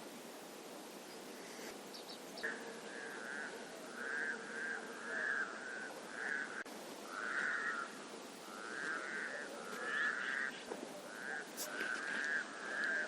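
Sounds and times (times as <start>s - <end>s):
frogs croaking: 1.1s - 13.0s
frog chorus drone: 2.4s - 13.0s.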